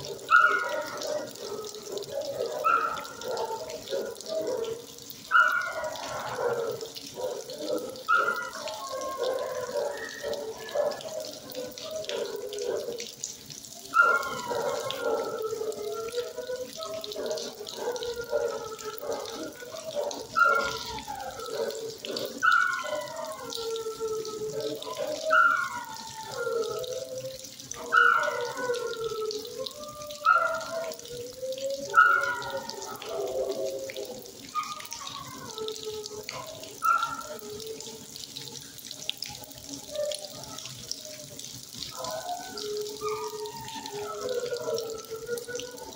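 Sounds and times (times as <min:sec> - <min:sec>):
dogs howling barks: 0:00.0 - 0:45.9.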